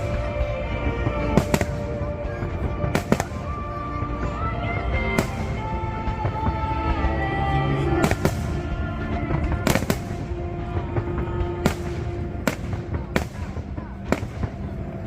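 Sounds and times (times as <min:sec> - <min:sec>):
fireworks bangs: 0:00.0 - 0:15.0
music playing: 0:00.0 - 0:15.0.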